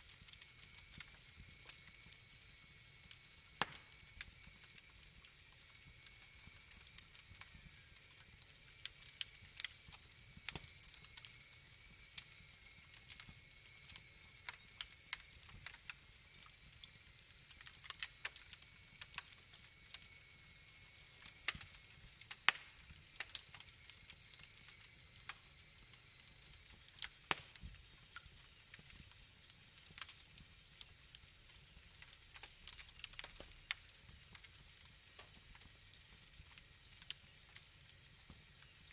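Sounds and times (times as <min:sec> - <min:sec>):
low hiss of fire: 0:00.0 - 0:38.9
wood fire crackling: 0:00.0 - 0:38.9.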